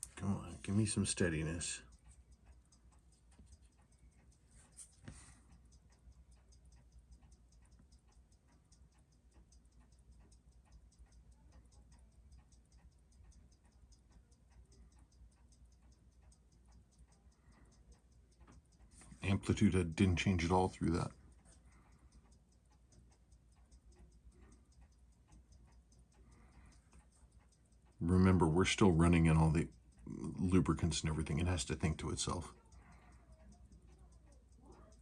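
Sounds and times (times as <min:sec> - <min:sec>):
watch ticking: 0:00.0 - 0:35.0.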